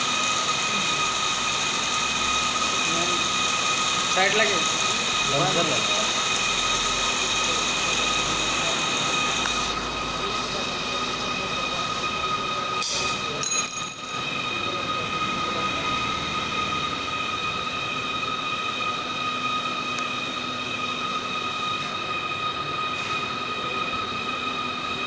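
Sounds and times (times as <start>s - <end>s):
conveyor belt whine and hum: 0.0s - 25.0s.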